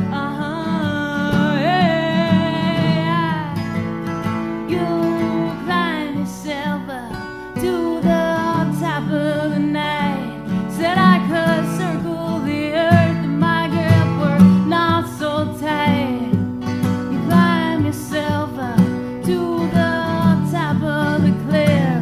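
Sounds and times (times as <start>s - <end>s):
person singing: 0.0s - 3.8s, 4.6s - 16.4s, 17.1s - 22.0s
acoustic guitar: 0.0s - 22.0s.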